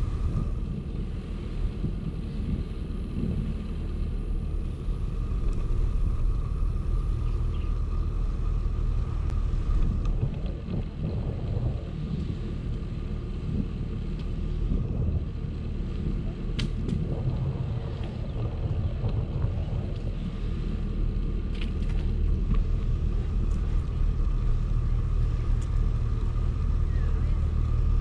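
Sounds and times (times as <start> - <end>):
bicycle tyre and wind rumble: 0.0 - 28.0.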